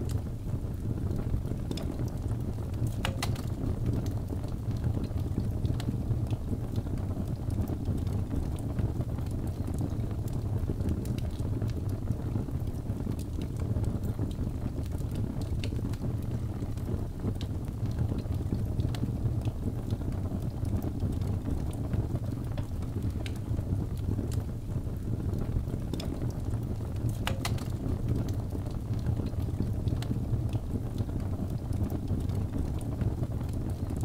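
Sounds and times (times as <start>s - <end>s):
fire crackling and popping: 0.0s - 34.0s
fire flames rumbling: 0.0s - 34.0s.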